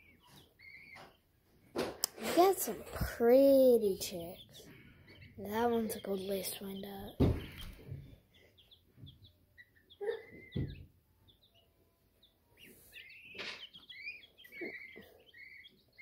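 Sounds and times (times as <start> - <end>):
chicks peeping: 0.0 - 3.1, 3.8 - 16.0.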